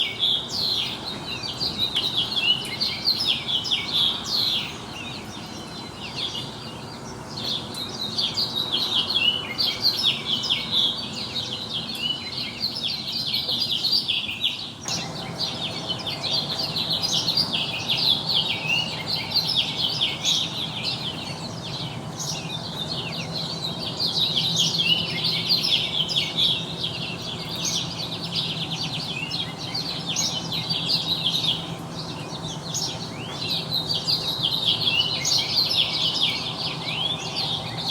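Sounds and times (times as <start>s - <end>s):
small birds chirping and trilling: 0.0s - 37.9s.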